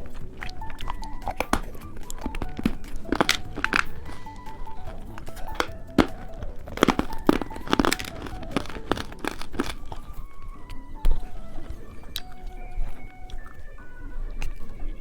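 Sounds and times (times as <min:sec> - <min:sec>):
plastic wrapper crinkling: 0:00.0 - 0:14.9
soft background music: 0:00.0 - 0:15.0.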